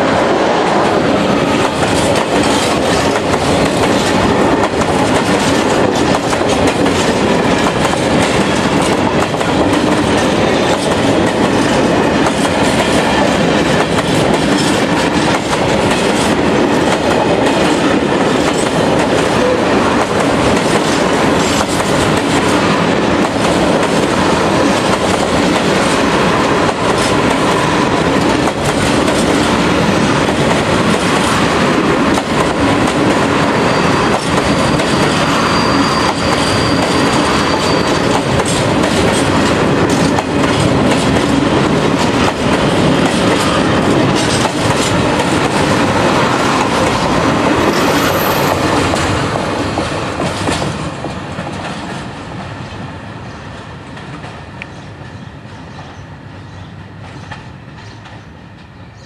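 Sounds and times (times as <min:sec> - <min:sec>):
train wheels rumbling on rails: 0:00.0 - 0:59.0
wheels clicking over rail joints: 0:01.6 - 0:33.4, 0:34.1 - 0:52.1.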